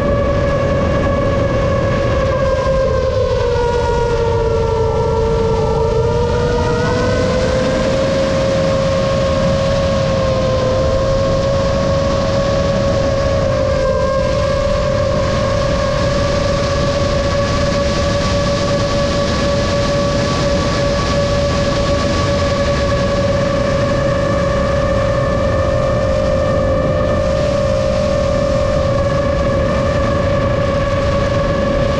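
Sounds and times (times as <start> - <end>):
drone propellers whining: 0.0 - 31.9
low rushing noise: 0.0 - 31.9.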